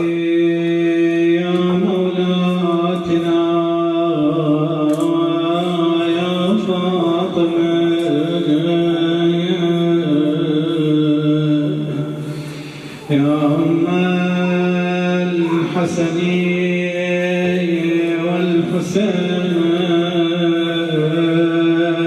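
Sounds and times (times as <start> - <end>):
man chanting a lament: 0.0 - 22.0.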